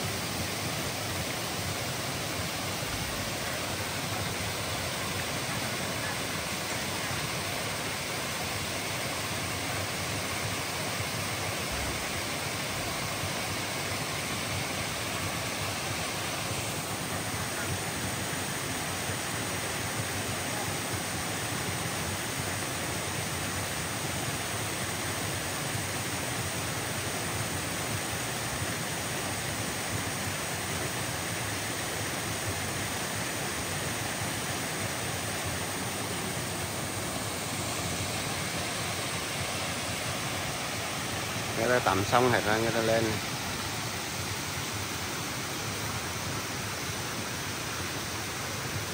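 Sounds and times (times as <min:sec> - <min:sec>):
stream water cascading over rocks: 0:00.0 - 0:48.9.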